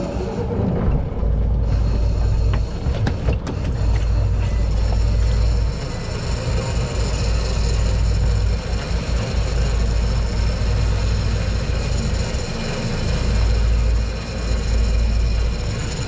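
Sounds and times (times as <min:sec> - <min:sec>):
continuous low rumble: 0:00.0 - 0:16.0
fishing reel drag buzzing: 0:01.6 - 0:02.8, 0:03.4 - 0:16.0.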